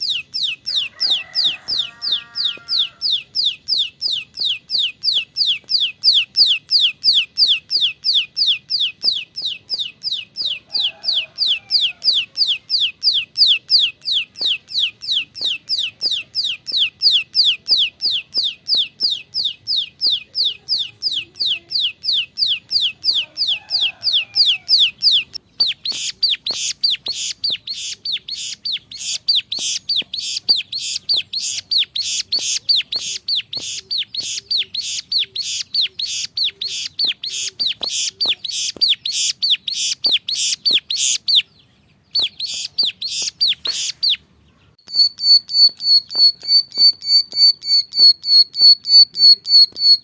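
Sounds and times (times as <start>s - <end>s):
bird song of high repeated notes: 0.0s - 50.0s.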